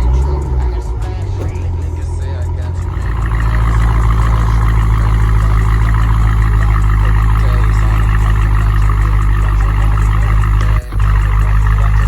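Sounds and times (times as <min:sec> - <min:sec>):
car engine deep rumble: 0:00.0 - 0:12.0.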